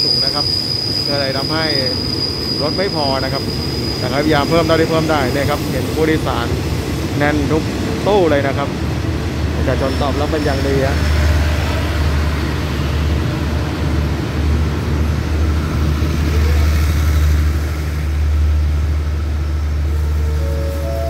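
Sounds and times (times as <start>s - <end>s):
train coaches rolling past: 0.0s - 21.0s.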